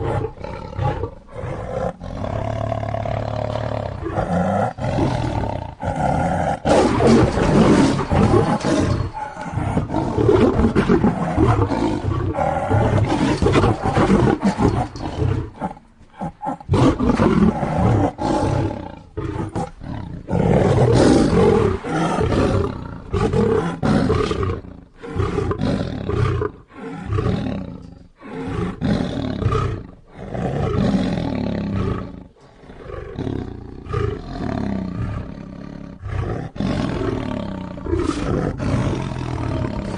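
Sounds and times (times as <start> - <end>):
lion roaring: 0.0 - 39.9.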